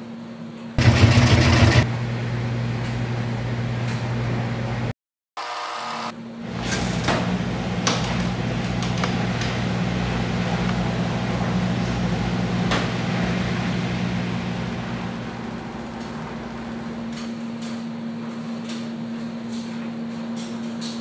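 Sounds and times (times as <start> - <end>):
laundry machine humming: 0.8 - 20.9.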